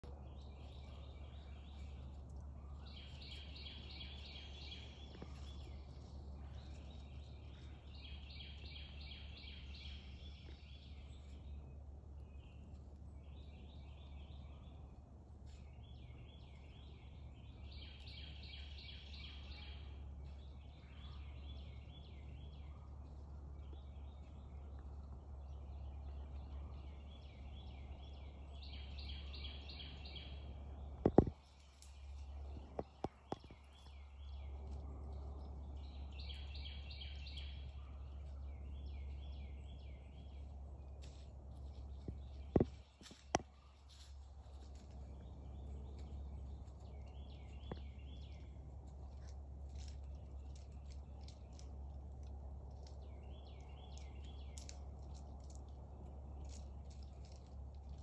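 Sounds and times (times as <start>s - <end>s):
songbird singing rapid trills: 0.0s - 58.0s
steady low rumble: 0.0s - 58.0s.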